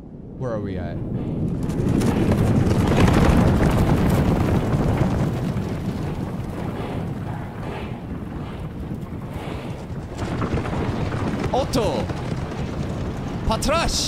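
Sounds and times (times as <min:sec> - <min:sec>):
low wind-like rumbling: 0:00.0 - 0:14.0.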